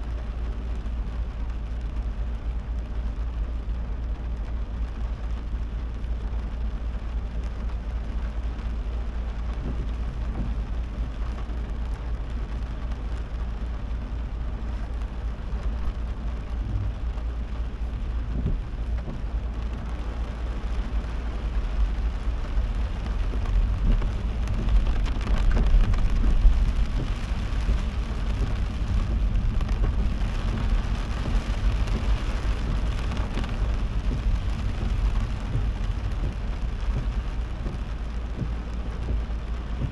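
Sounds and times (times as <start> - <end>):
heavy rain on a car: 0.0 - 39.9
road and engine rumble: 0.0 - 39.9.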